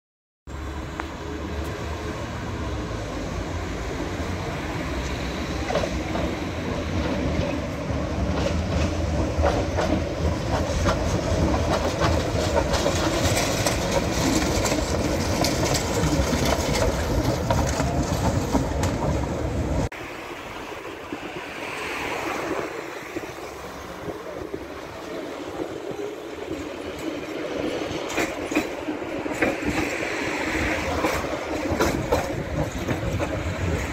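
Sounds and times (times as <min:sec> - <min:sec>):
road traffic: 0:00.5 - 0:33.9
tram rising whine: 0:00.5 - 0:33.9
tram rumbling on rails: 0:00.5 - 0:33.9.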